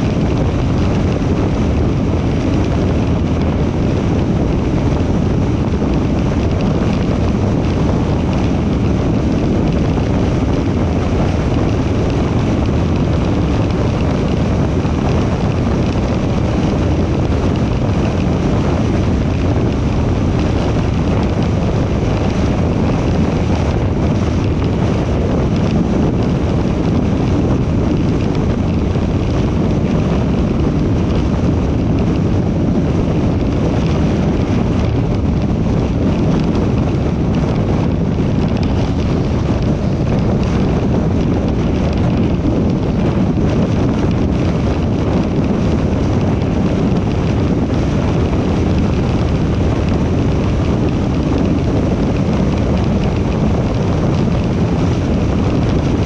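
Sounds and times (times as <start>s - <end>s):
tyre and wind noise from moving car: 0.0s - 56.0s.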